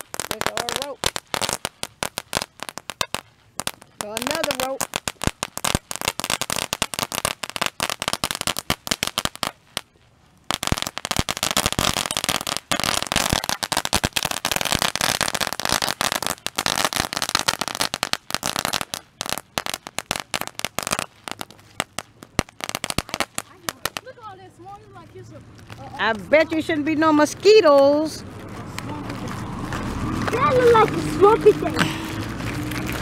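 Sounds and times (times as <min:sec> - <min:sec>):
firecrackers banging: 0:00.0 - 0:33.0.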